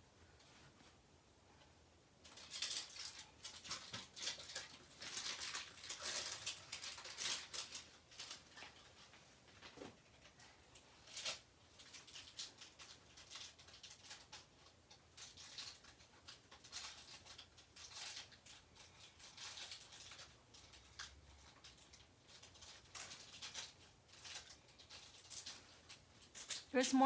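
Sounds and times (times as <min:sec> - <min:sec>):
packaging rustling and tearing: 0:02.2 - 0:27.0.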